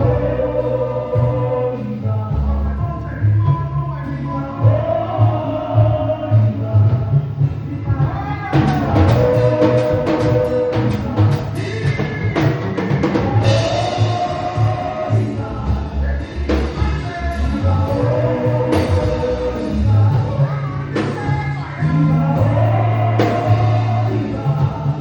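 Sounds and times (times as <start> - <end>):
bass: 0.0 - 25.0
drums: 0.0 - 25.0
people singing: 0.0 - 25.0.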